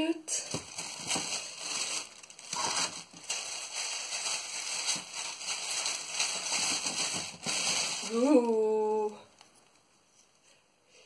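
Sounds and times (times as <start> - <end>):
wrapping rustling and crinkling: 0.4 - 10.4.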